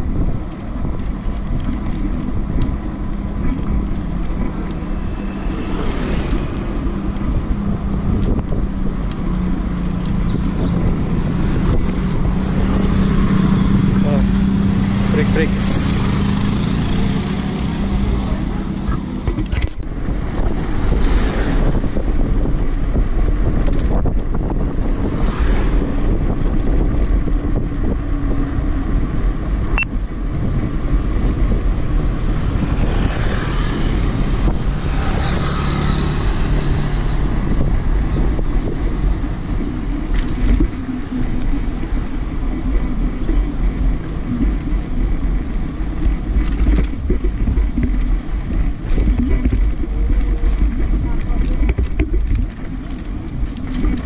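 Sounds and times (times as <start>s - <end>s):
road and vehicle noise: 0.0s - 54.0s
wind buffeting microphone: 0.0s - 54.0s.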